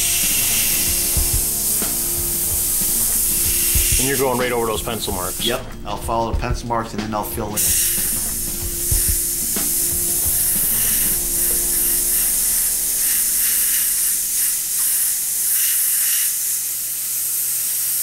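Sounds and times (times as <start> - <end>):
airbrush spraying paint: 0.0 - 5.9, 7.2 - 18.0.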